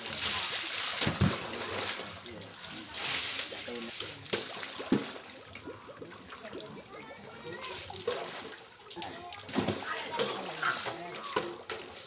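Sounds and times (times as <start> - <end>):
water splashing on concrete: 0.0 - 12.0.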